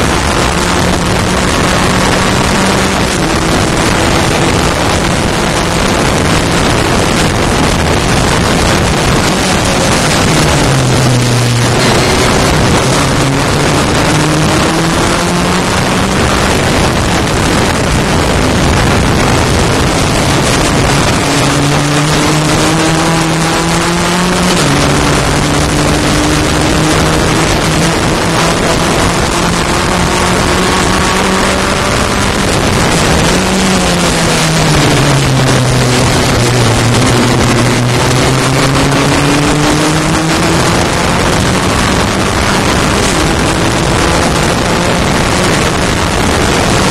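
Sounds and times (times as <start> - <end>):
heavy wind hiss: 0.0 - 46.9
racing car engine: 0.0 - 46.9.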